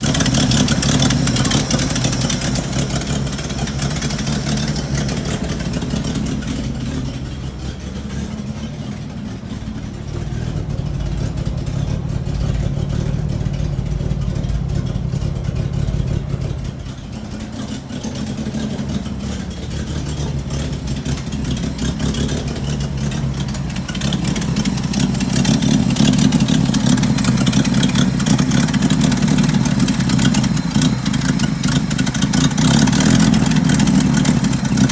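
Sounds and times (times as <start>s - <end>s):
truck engine with exhaust leak: 0.0s - 34.9s.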